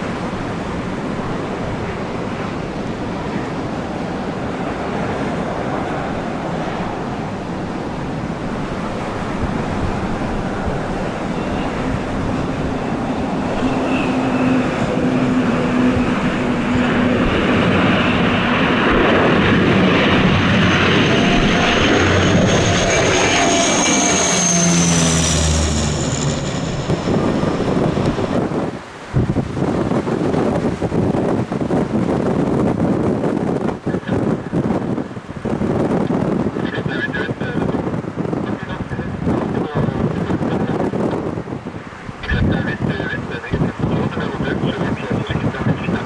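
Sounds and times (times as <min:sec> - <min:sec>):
airliner engines passing: 0:00.0 - 0:46.0
wind noise on microphone: 0:00.0 - 0:46.0.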